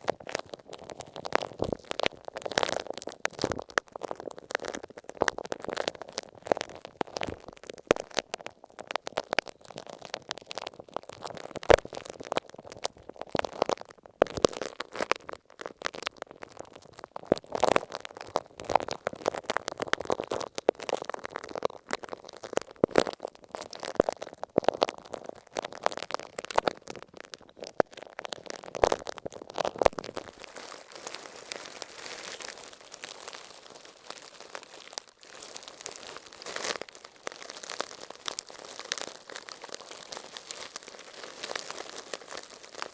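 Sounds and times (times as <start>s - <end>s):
rubber ball crinkling on tape: 0.0s - 42.9s.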